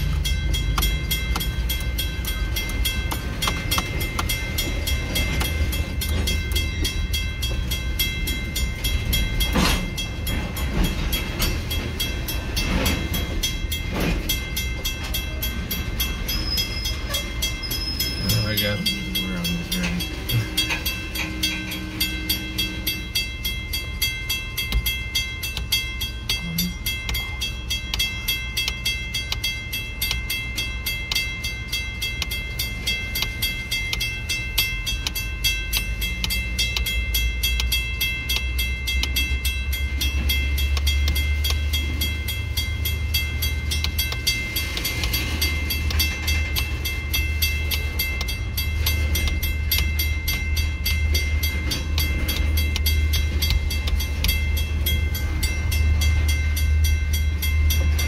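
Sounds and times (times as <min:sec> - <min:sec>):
low train rumble: 0:00.0 - 0:58.0
train wheels clicking over rail joints: 0:00.0 - 0:58.0.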